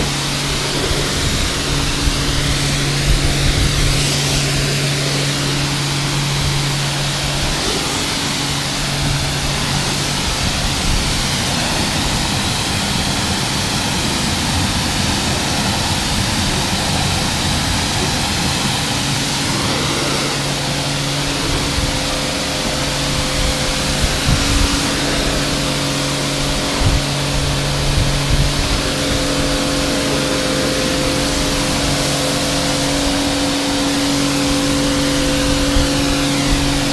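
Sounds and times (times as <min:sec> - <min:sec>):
pressure washer pump humming: 0:00.0 - 0:36.9
water jet spraying hiss: 0:00.0 - 0:36.9.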